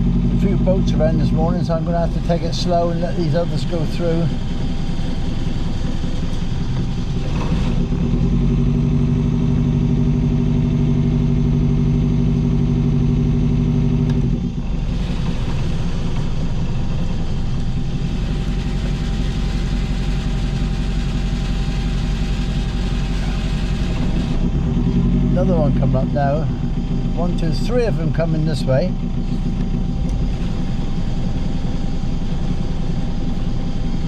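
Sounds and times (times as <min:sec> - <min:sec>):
boat diesel engine running: 0:00.0 - 0:34.0.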